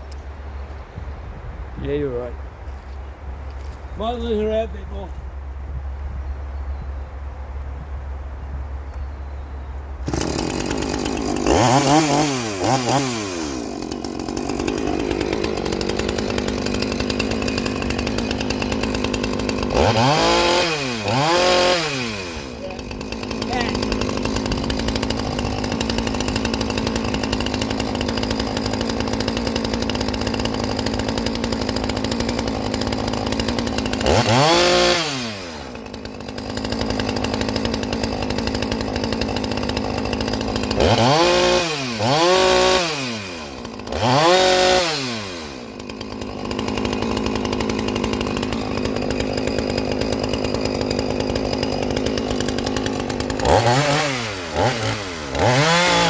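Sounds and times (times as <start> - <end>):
chainsaw engine revving: 10.0 - 56.0.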